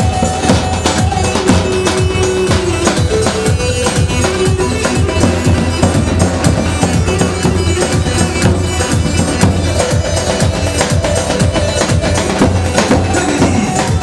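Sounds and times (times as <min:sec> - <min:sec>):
folk dance music on keyboard: 0:00.0 - 0:14.0.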